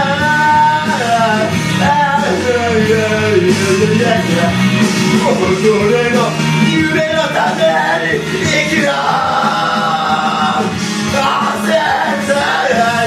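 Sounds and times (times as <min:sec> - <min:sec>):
karaoke backing track: 0:00.0 - 0:13.0
man singing into microphone: 0:00.0 - 0:13.0.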